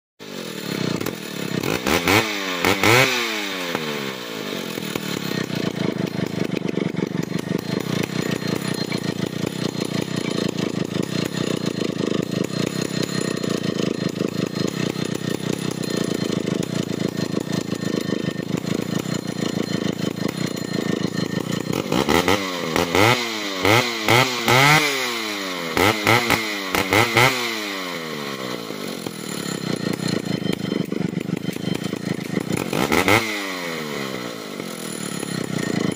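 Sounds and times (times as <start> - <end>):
chainsaw idling and revving: 0.2 - 35.9.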